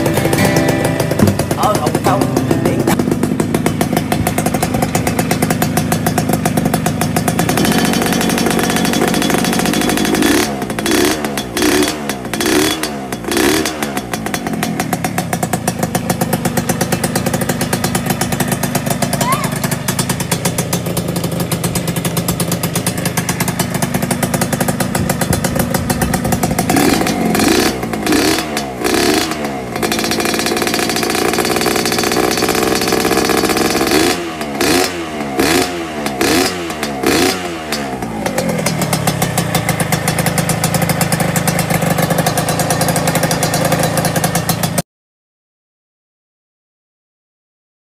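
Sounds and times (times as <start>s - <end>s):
motorcycle engine revving: 0.0s - 44.8s.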